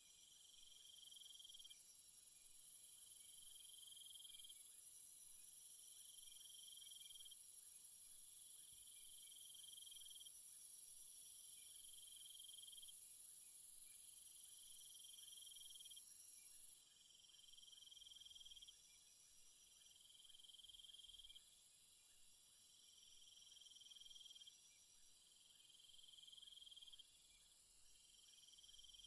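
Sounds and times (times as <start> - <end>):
insect trill: 0.0 - 29.0.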